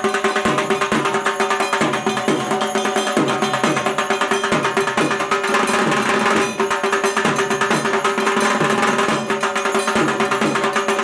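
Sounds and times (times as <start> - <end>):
barrel drum beaten fast: 0.0 - 11.0.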